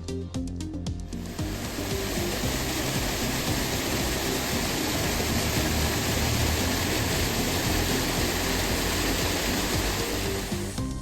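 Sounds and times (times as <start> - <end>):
waterfall roaring: 1.3 - 10.7.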